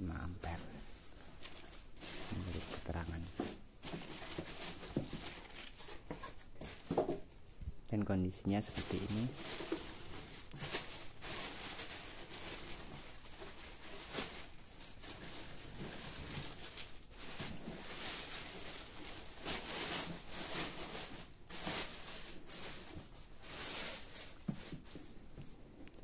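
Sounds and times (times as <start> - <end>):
plastic bag crinkling: 0.1 - 7.3, 8.0 - 26.0.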